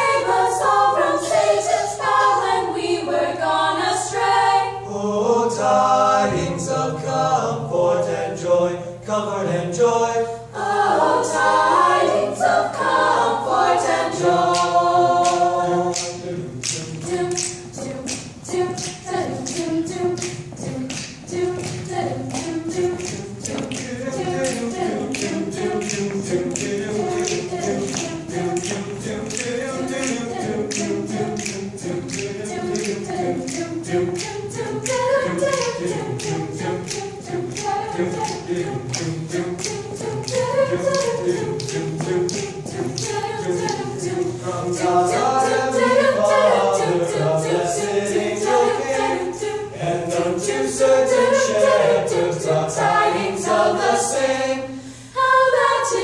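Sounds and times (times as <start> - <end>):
a cappella choir singing: 0.0 - 56.0.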